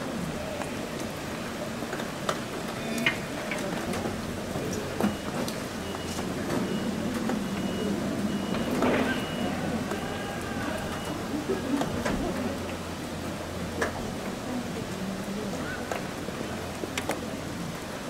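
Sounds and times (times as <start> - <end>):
low murmur: 0.0 - 18.0.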